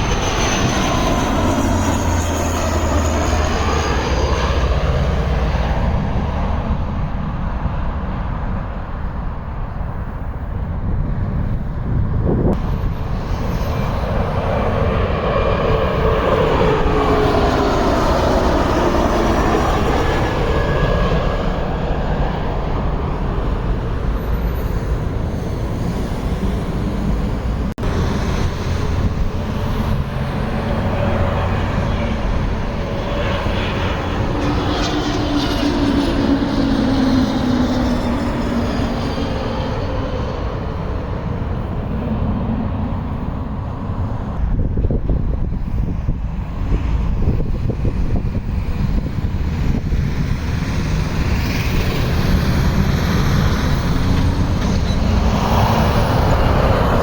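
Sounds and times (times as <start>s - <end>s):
jet airliner engines passing: 0.0s - 57.0s.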